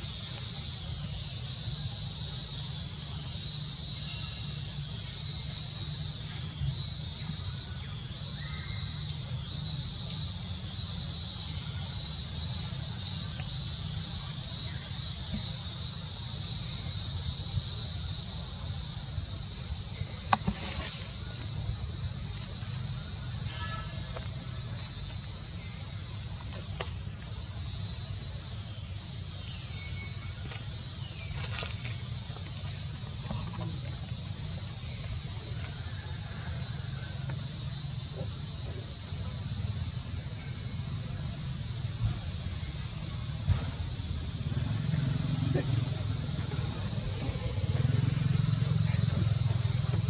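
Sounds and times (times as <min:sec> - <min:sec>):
high-pitched hiss: 0:00.0 - 0:50.0
high-pitched insect drone: 0:00.0 - 0:50.0.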